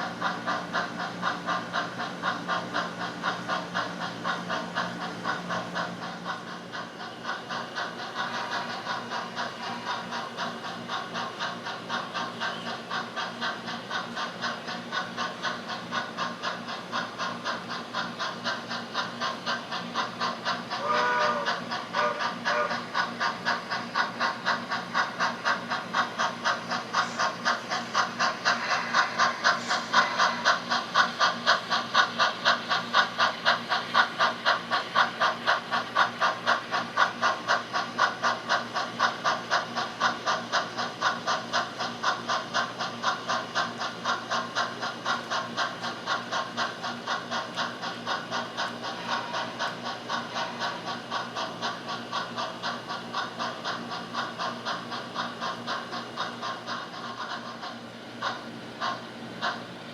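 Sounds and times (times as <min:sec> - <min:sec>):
model steam locomotive chuffing: 0:00.0 - 0:59.9.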